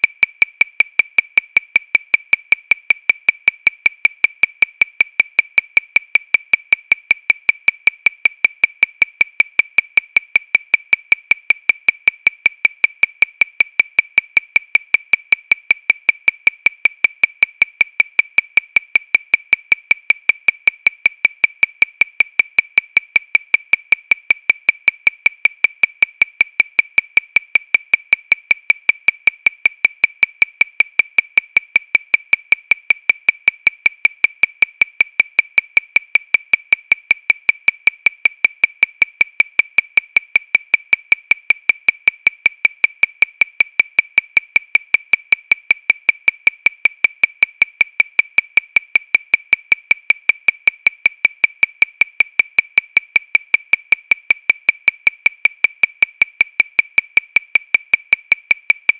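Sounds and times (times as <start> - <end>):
fast metronome clicking: 0.0 - 58.9.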